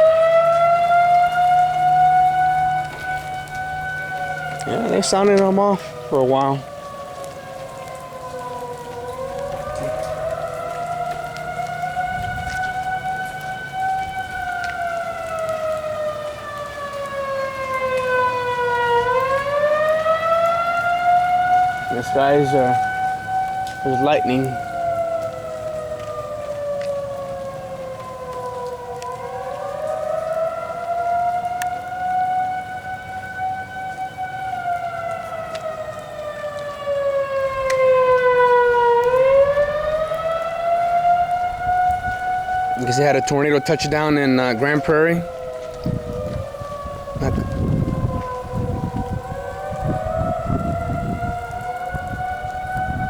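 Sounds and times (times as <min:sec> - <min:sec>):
tornado warning siren wailing: 0:00.0 - 0:53.0.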